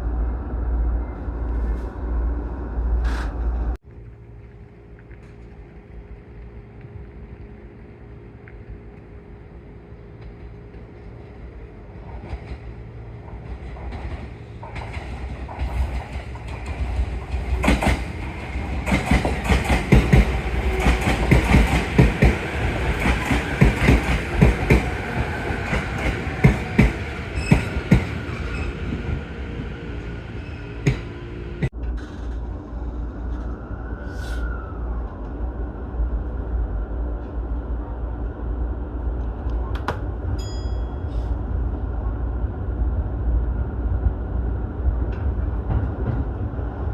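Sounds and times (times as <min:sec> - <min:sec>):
train running noise: 0:00.0 - 0:46.9.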